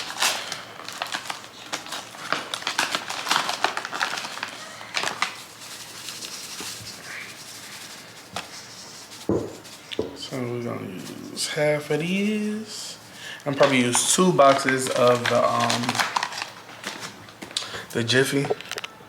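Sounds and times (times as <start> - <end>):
packaging crinkling and crackling: 0.0 - 10.1, 13.4 - 18.9.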